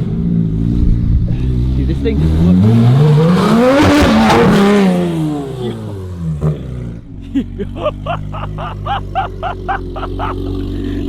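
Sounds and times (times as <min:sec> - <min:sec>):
car engine revving at full throttle: 0:00.0 - 0:11.0.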